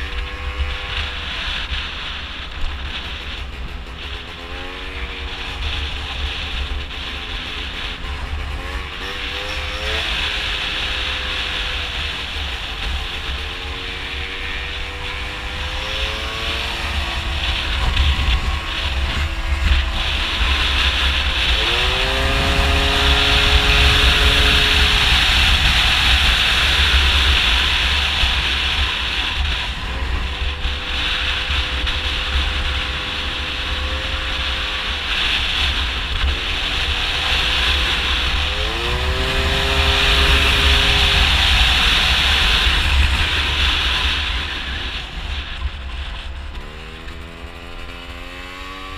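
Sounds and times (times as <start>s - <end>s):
scooter engine revving: 0.0s - 48.9s
wind buffeting on microphone: 0.0s - 48.9s.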